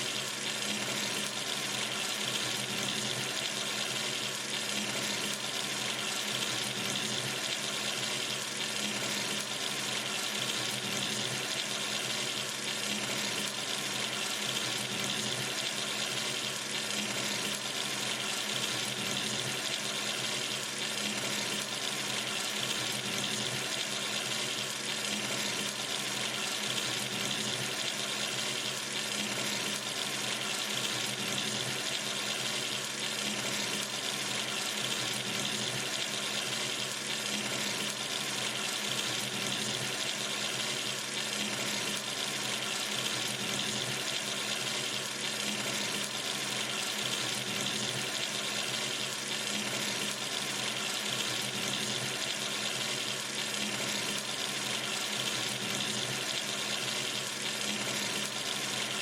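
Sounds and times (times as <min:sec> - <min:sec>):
water running from a sink tap: 0:00.0 - 0:59.0.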